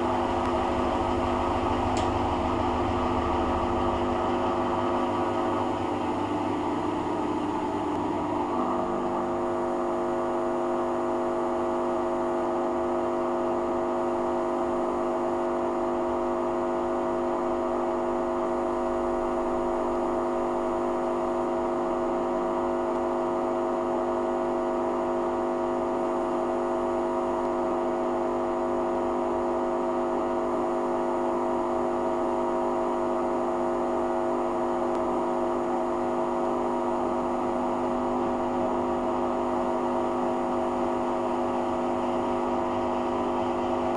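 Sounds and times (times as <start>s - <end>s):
washing machine humming: 0.0s - 43.9s.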